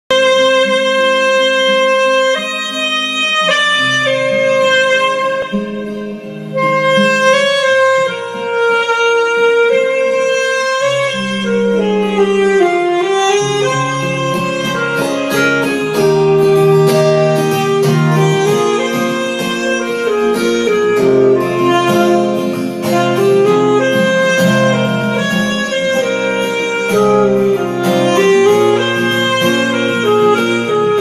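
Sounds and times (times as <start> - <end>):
acoustic guitar strumming: 0.1 - 31.0
saxophone slow melody: 0.1 - 31.0.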